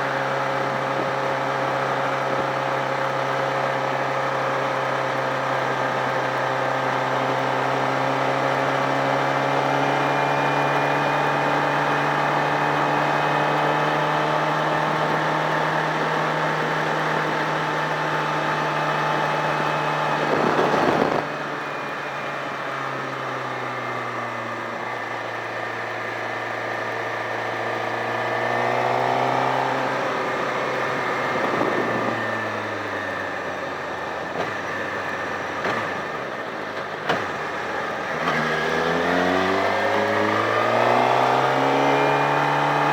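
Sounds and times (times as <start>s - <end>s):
motorcycle engine running: 0.0s - 42.9s
road noise: 0.0s - 42.9s.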